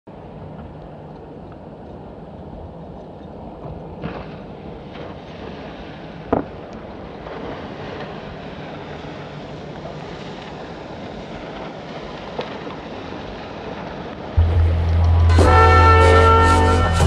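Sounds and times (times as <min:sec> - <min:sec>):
wind: 0:00.0 - 0:17.0
water: 0:00.1 - 0:17.0.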